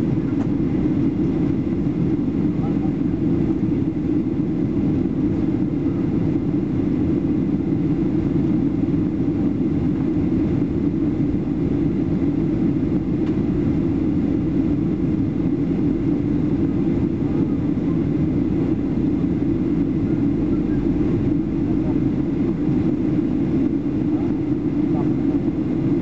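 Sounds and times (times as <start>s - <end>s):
airplane cabin roar: 0.0s - 26.0s
jet engines and airflow rush: 0.0s - 26.0s.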